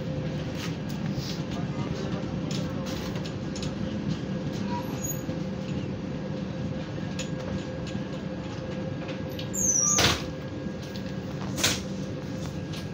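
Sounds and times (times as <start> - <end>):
train rumbling and humming: 0.0 - 12.9.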